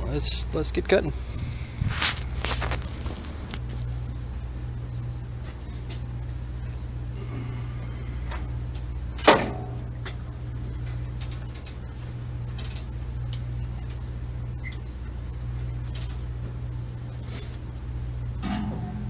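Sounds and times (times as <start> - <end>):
welding machine engine drone: 0.0 - 19.0.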